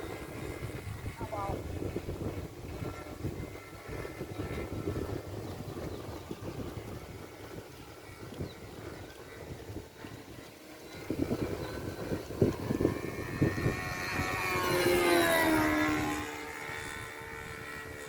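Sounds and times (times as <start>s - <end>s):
model airplane engine droning: 0.0s - 18.0s.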